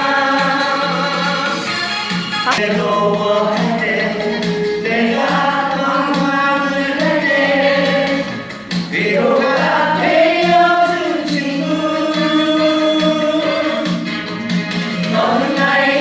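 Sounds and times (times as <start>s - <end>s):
music with singing over a beat: 0.0s - 16.0s.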